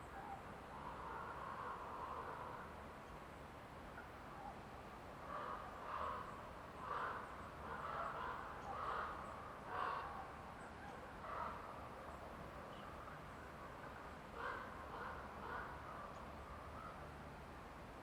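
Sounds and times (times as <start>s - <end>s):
faint forest ambience hiss: 0.0s - 18.0s.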